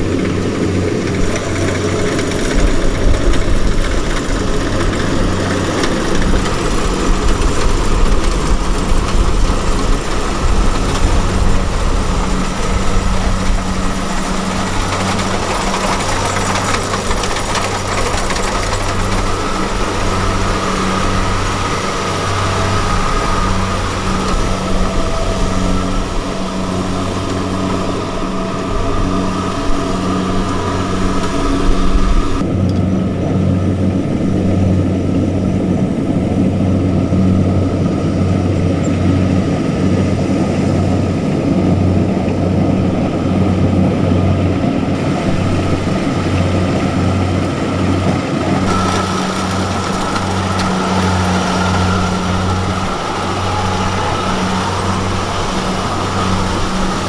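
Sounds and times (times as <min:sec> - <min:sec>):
diesel engine running: 0:00.0 - 0:57.0
machinery noise: 0:00.0 - 0:57.0.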